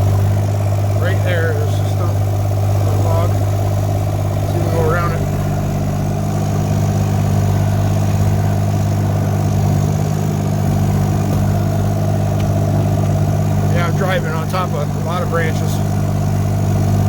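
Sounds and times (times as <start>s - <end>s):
excavator engine droning: 0.0s - 17.0s.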